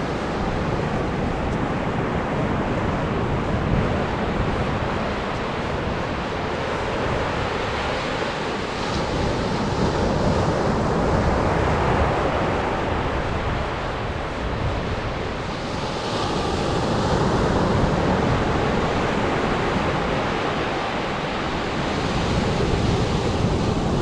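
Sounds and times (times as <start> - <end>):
surf washing up beach: 0.0 - 24.0
wind rumbling on microphone: 0.0 - 24.0.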